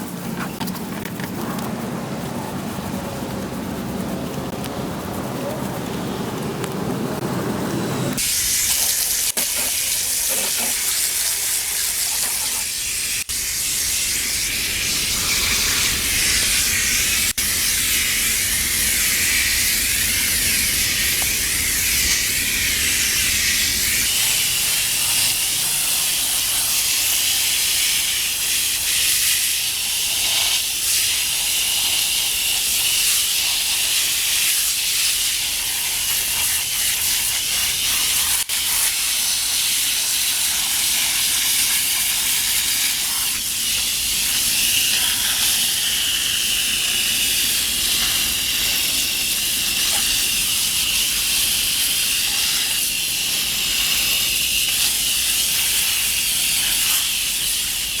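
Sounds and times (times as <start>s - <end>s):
liquid spraying onto coils: 8.2s - 58.0s.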